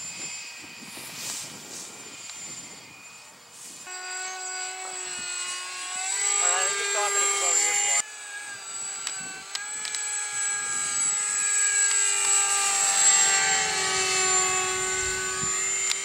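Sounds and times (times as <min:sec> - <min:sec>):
electric ducted fans whining: 0:00.0 - 0:16.0.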